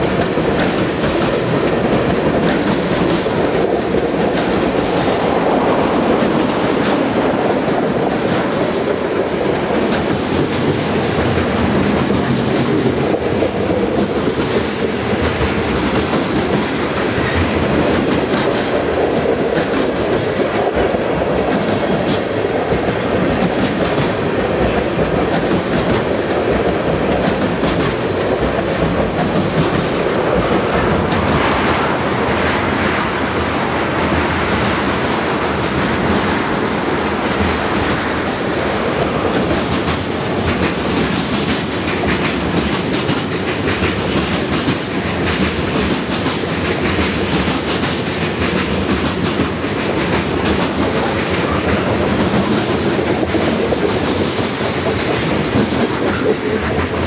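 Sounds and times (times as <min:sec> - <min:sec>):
train wheels clicking on rails: 0:00.0 - 0:57.0.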